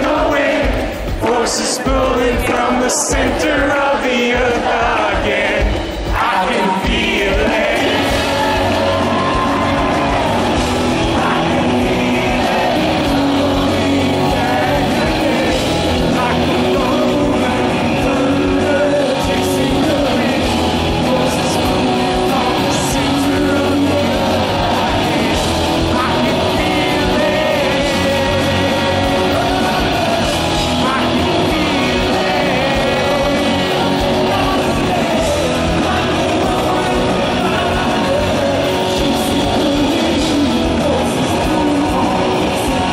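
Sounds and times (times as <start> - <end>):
man singing: 0.0 - 42.9
rock band playing live: 0.0 - 42.9.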